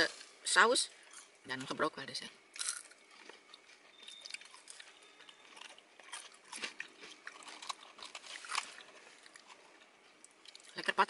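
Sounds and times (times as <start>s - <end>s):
person chewing: 0.9s - 1.7s, 2.5s - 10.8s.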